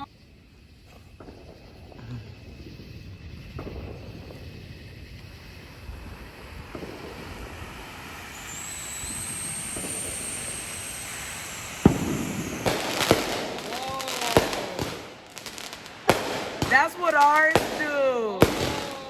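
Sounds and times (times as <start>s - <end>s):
firework bang: 0.0s - 19.0s
firework high whistle: 0.0s - 19.0s
firework hissing: 0.0s - 19.0s.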